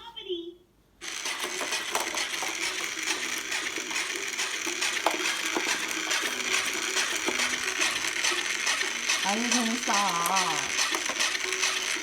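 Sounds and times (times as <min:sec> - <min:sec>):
toy mechanism rapid clicking: 0:01.0 - 0:12.0.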